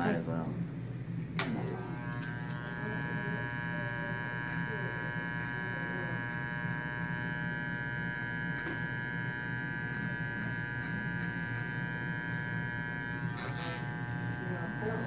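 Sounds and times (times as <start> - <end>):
electric hair clippers buzzing: 1.1 - 15.0.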